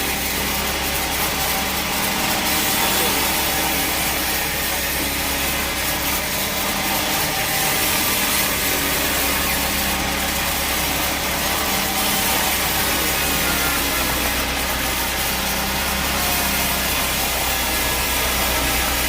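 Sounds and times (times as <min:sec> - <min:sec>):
bandsaw blade cutting log: 0:00.0 - 0:19.0.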